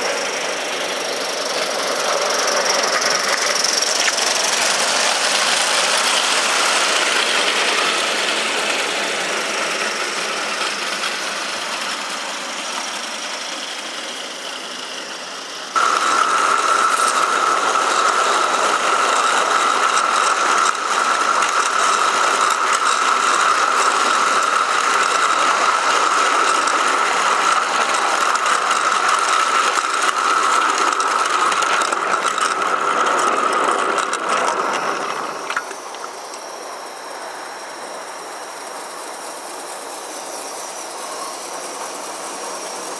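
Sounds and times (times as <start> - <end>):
model train wheels rattling on track: 0.0 - 42.9
steady high-pitched tone: 0.0 - 42.9.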